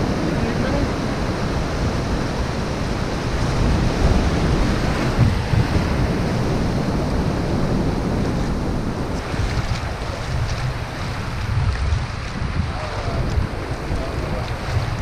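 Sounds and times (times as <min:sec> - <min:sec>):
ocean surf on sandy beach: 0:00.0 - 0:15.0
wind buffeting microphone: 0:00.0 - 0:15.0.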